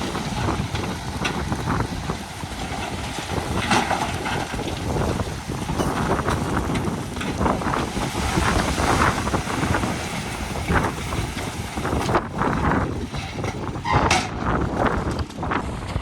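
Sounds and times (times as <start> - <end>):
diesel earthmoving machinery running: 0.0 - 16.0
wind buffeting microphone: 0.0 - 16.0.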